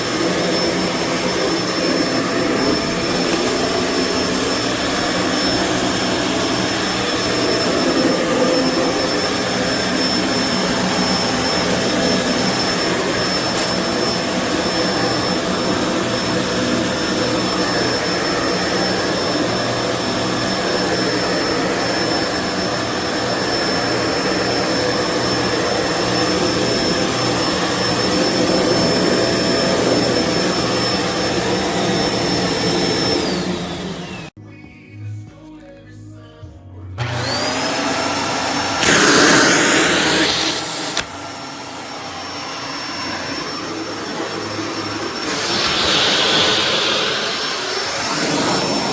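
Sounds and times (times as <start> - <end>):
vacuum cleaner running: 0.0 - 34.4, 37.0 - 48.9.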